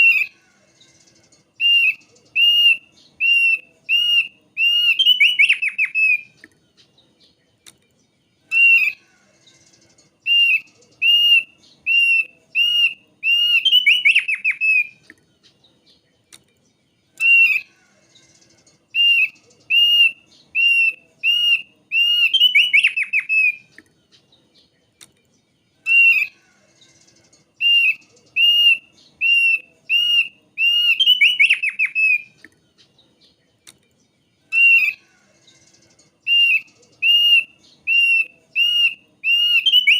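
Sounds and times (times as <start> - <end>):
bird whistled notes and trill: 0.0 - 33.4, 34.0 - 39.9.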